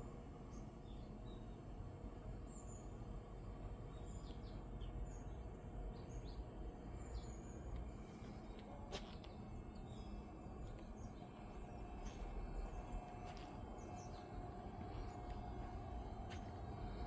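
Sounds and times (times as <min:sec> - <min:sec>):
low outdoor rumble: 0:00.0 - 0:17.0
small birds chirping: 0:00.4 - 0:17.0.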